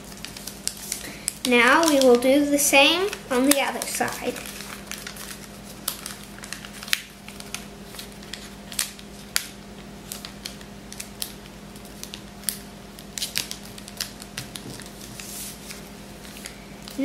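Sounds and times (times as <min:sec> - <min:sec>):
paper being folded and creased: 0:00.0 - 0:09.5, 0:10.1 - 0:17.0.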